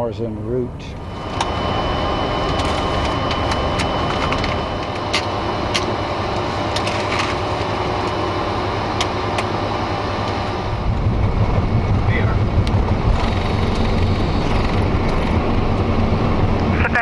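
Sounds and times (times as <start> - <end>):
deep engine rumble: 0.0 - 17.0
cockpit noise rush with high tone: 0.7 - 17.0.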